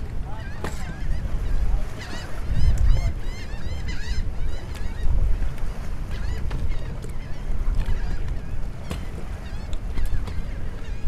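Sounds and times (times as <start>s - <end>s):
birds calling: 0.0s - 11.0s
wind buffeting microphone: 0.0s - 11.0s.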